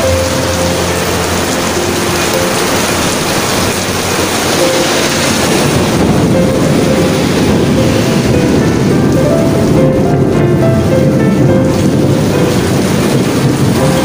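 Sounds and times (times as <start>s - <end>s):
heavy rain on pavement: 0.0s - 14.0s.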